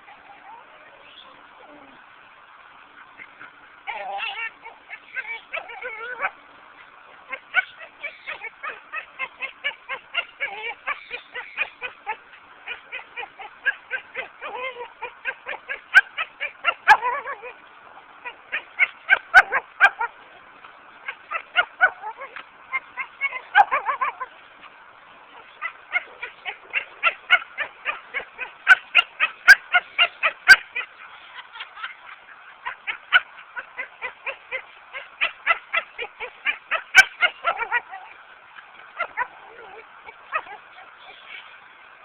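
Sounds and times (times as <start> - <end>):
dog honking yelps and whines: 3.2 - 6.4, 7.2 - 17.6, 18.2 - 20.2, 21.0 - 24.4, 25.3 - 41.6.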